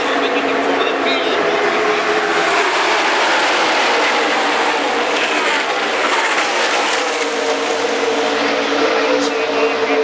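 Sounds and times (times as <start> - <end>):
race cars passing at full speed: 0.0 - 10.0.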